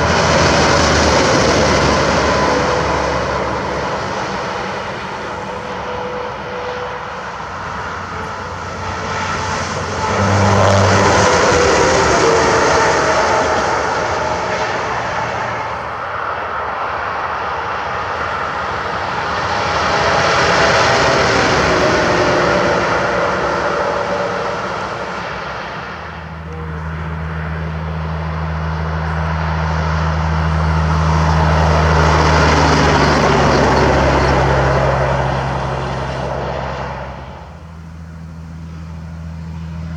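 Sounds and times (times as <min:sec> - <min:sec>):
deep engine hum: 0:00.0 - 0:39.9
trucks passing on highway: 0:00.0 - 0:39.9.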